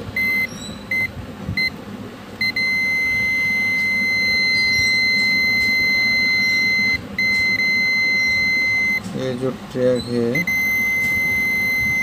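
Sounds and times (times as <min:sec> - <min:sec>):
multimeter continuity beeps: 0:00.2 - 0:01.8, 0:02.4 - 0:12.0.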